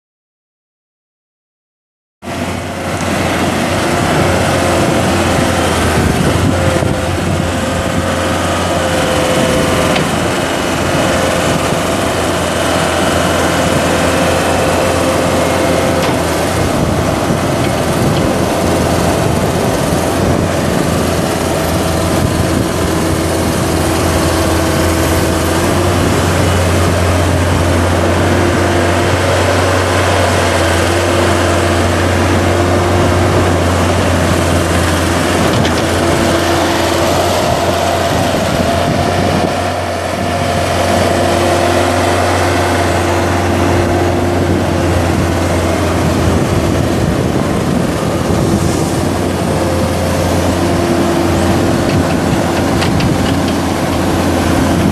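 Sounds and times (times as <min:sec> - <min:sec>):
skid steer diesel engine running: 0:02.2 - 0:54.9.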